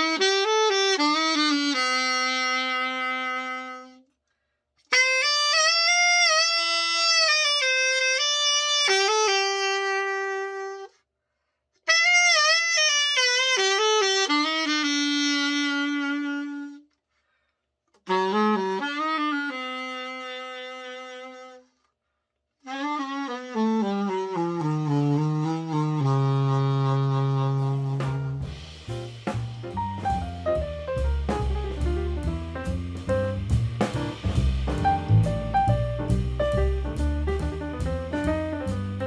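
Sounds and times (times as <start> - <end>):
alto saxophone melodic phrases: 0.0 - 4.2, 4.8 - 11.0, 11.9 - 17.0, 18.0 - 21.9, 22.6 - 39.0.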